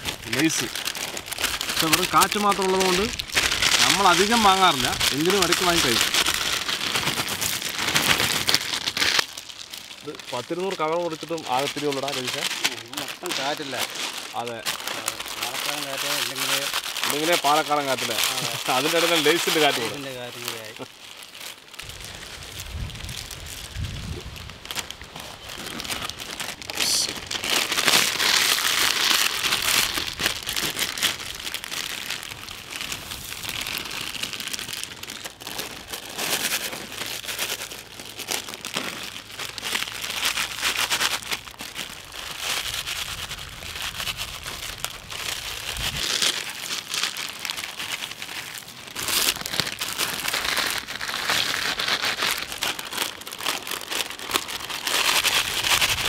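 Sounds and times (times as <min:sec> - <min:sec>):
chip packets crinkling and tearing: 0:00.0 - 0:56.0.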